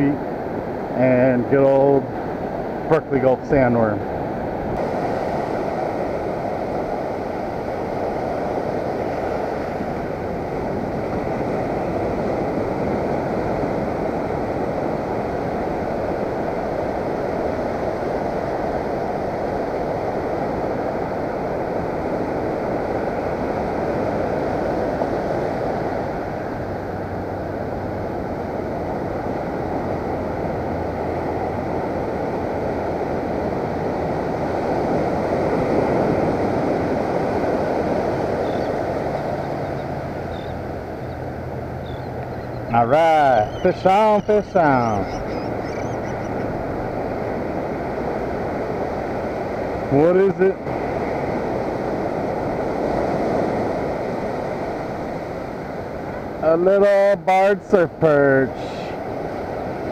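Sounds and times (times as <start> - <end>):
wind buffeting microphone: 0.0 - 56.4
ocean surf breaking: 0.0 - 59.9.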